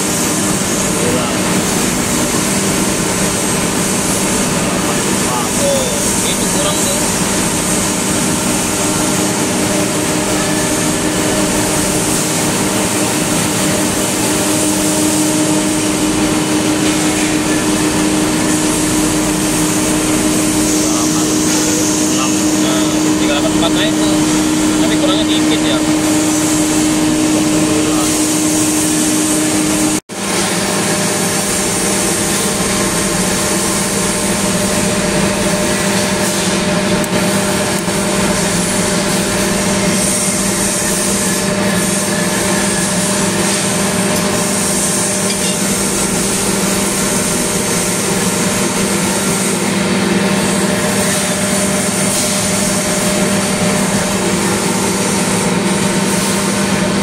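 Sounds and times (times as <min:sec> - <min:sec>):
air compressor humming: 0:00.0 - 0:57.0.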